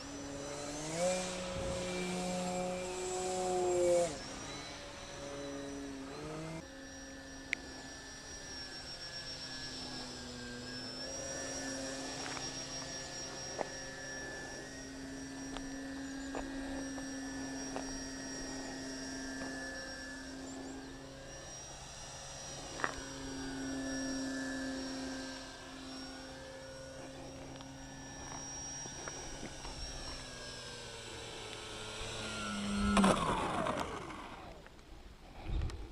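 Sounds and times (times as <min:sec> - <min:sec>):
model plane motor whine: 0:00.0 - 0:35.9.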